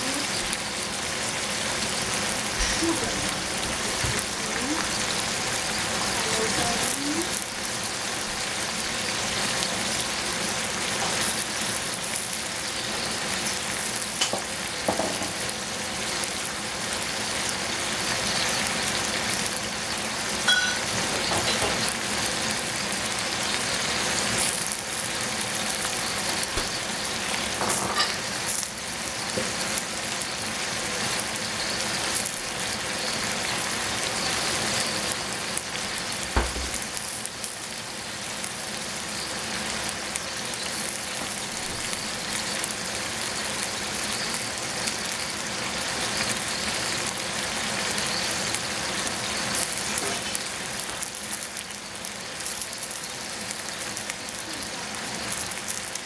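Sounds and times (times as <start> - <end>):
tomatoes sizzling in saucepan: 0.0 - 56.0.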